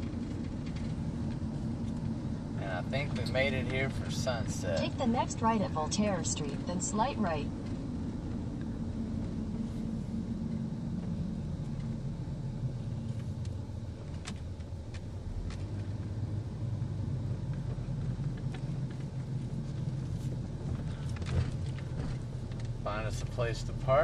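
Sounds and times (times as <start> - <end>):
engine and road hum: 0.0 - 24.0.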